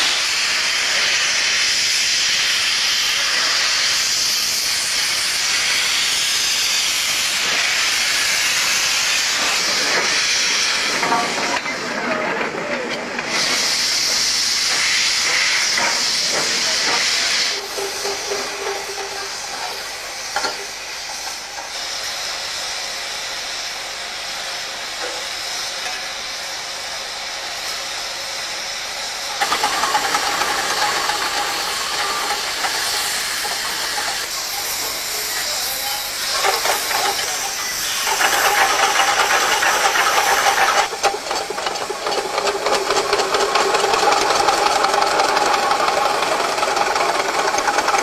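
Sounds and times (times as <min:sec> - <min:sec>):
steam locomotive hissing steam: 0:00.0 - 0:48.0.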